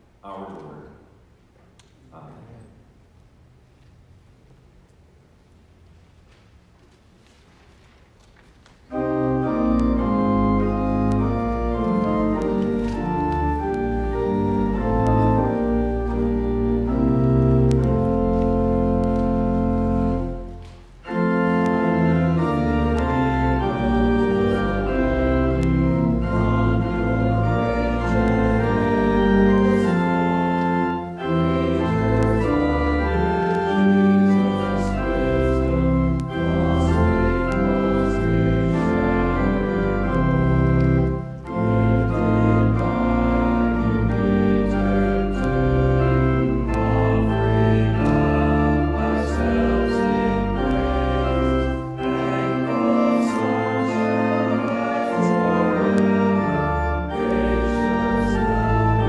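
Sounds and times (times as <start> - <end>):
church organ chords: 8.9 - 59.0.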